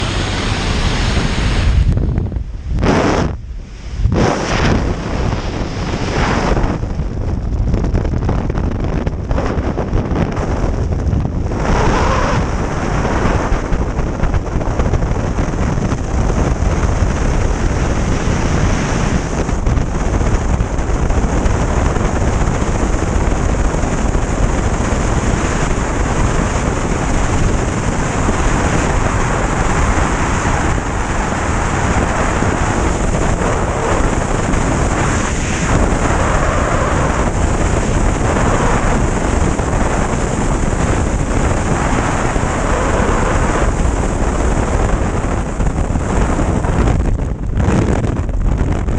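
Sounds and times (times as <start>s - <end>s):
airplane cabin engine roar: 0.0s - 48.9s.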